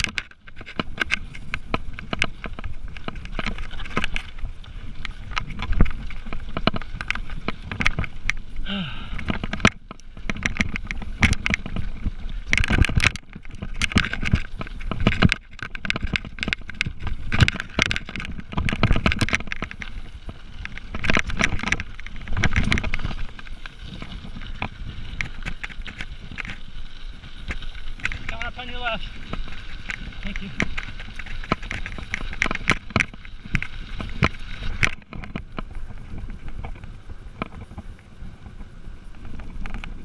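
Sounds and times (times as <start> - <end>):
bike rattling over bumps: 0.0 - 40.0.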